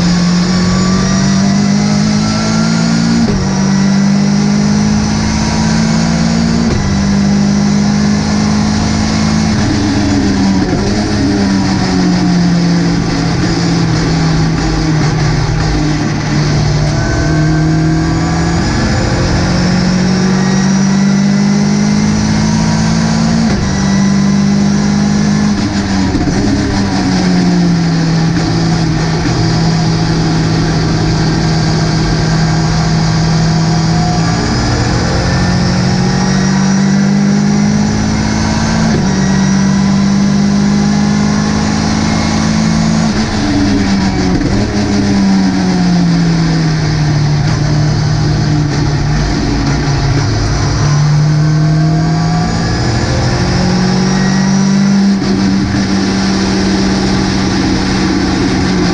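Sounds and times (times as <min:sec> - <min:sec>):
race car engine at high revs: 0:00.0 - 0:58.9
wind and road noise: 0:00.0 - 0:58.9.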